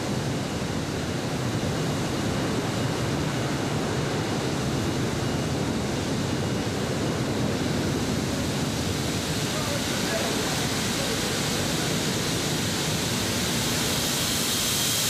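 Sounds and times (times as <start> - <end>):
steady industrial rushing noise: 0.0 - 15.0.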